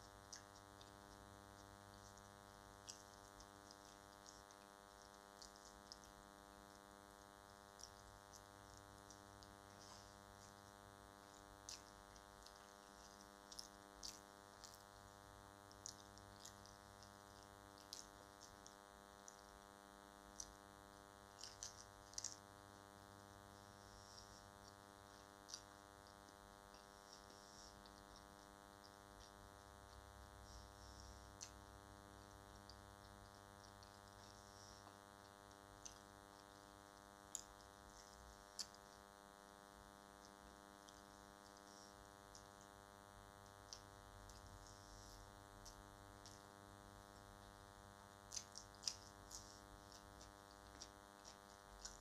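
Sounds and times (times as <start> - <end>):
chewing clicks and smacks: 0.0 - 52.0
electrical hum: 0.0 - 52.0.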